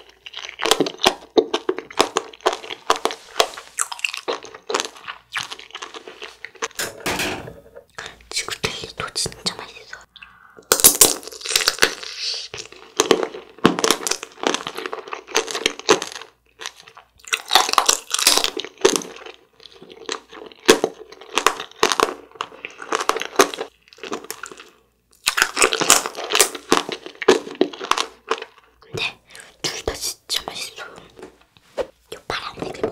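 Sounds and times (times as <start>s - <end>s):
crunching hard candy: 0.0s - 6.8s, 10.6s - 31.2s.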